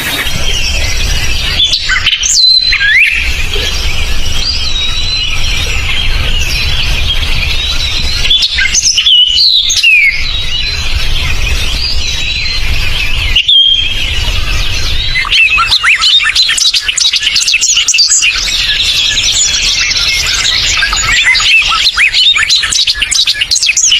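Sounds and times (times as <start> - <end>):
birds chirping and whistling: 0.0 - 23.9.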